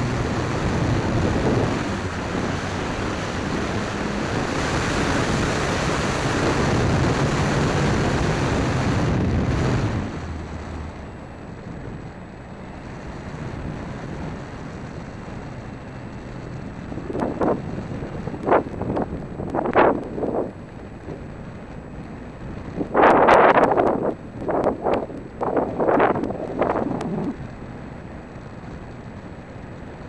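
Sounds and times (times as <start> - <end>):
model plane motor and propeller: 0.0 - 30.0
wind rushing over microphone: 0.0 - 30.0.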